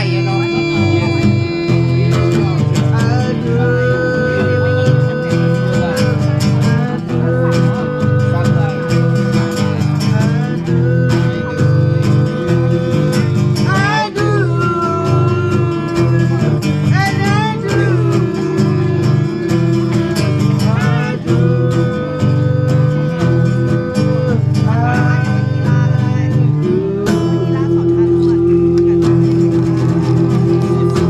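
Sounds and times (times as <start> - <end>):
bass line: 0.0 - 31.0
person singing: 0.0 - 31.0
strummed guitar: 0.0 - 31.0.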